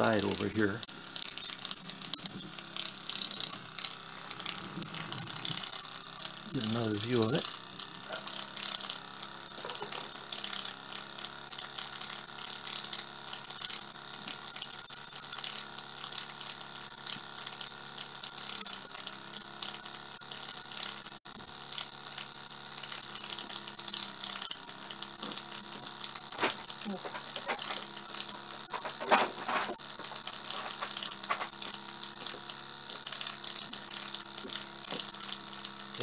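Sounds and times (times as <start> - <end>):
model steam engine ticking: 0.0 - 29.0, 29.7 - 36.0.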